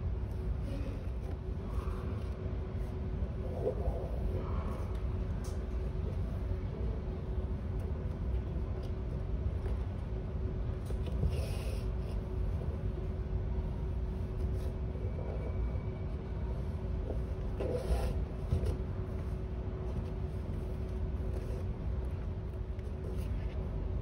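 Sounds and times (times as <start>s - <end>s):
faint hum: 0.0s - 24.0s
low background rumble: 0.0s - 24.0s.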